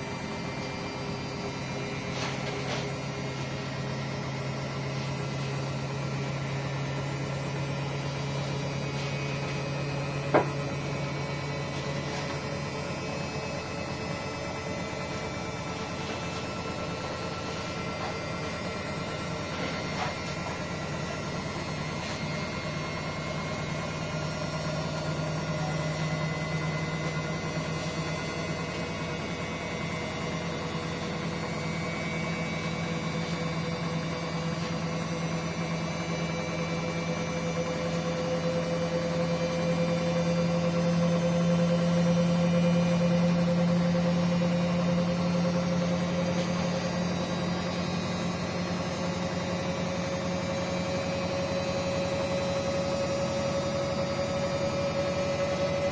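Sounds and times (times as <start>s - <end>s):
washing machine motor whine: 0.0s - 55.9s.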